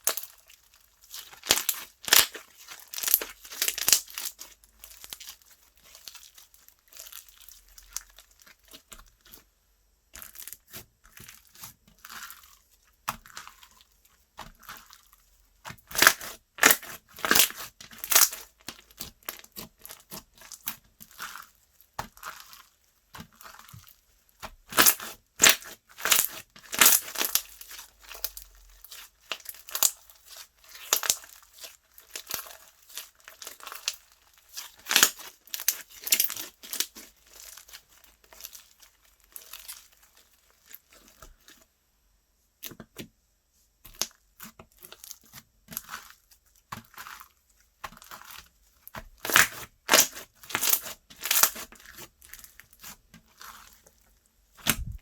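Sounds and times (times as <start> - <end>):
slime squished by hand: 0.0 - 9.4, 15.6 - 41.6, 43.8 - 53.8, 54.5 - 55.0.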